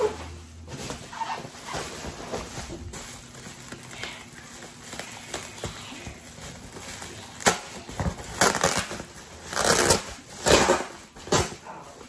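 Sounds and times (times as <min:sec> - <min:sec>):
foil bag crinkling: 0:00.3 - 0:11.9.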